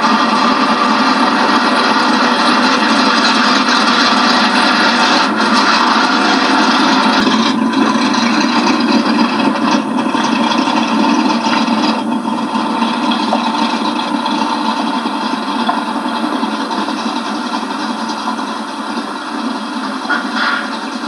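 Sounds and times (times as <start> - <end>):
car engine driving: 0.0 - 21.0.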